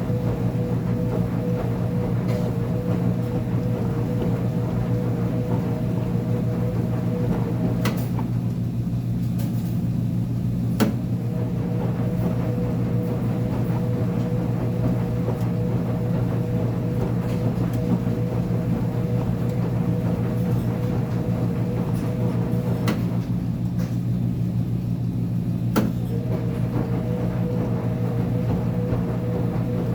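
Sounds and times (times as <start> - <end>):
washing machine humming: 0.0 - 29.9.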